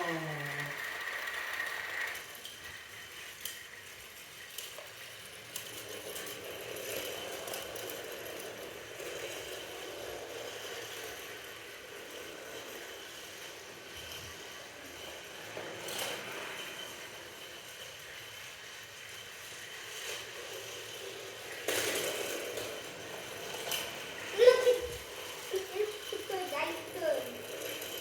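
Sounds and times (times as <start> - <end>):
toy train motor whirr and rattle: 0.0 - 28.0.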